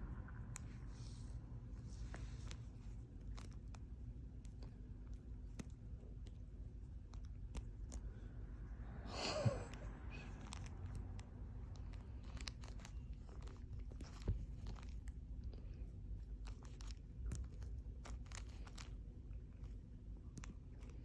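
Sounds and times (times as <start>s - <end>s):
kitten chewing and crunching: 1.8s - 8.8s, 9.7s - 21.0s.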